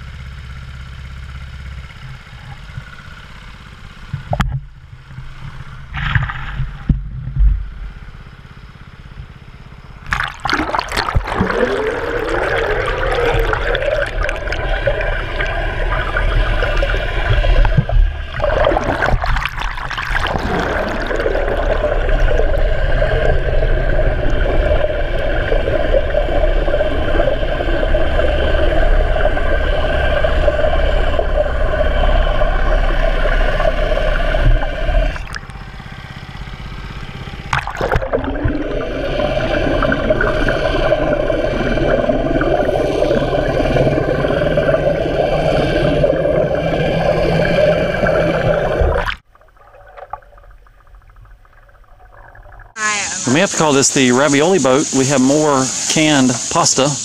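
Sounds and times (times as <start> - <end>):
muffled engine hum underwater: 0.0 - 57.0
water rushing and propeller churn: 9.6 - 57.0.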